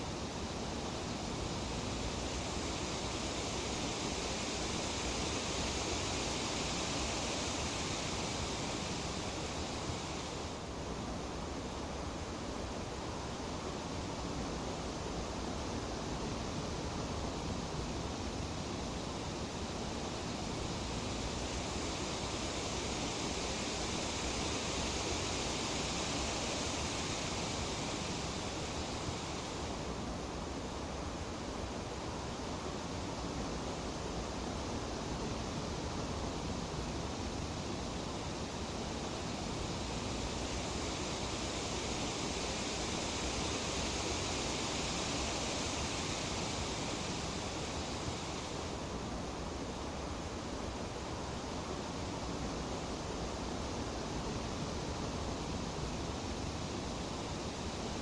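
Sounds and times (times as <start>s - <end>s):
wind rustling tree leaves: 0.0s - 58.0s.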